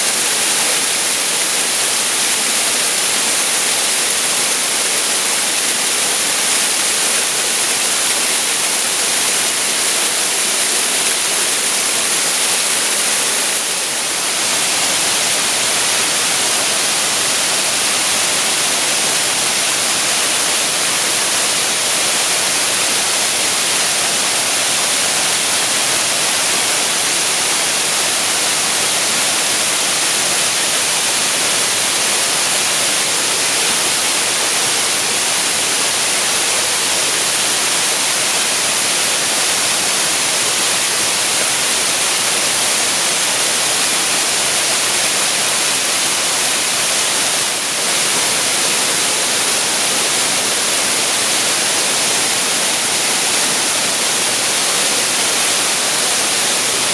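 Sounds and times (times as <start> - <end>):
waterfall pouring: 0.0 - 56.9.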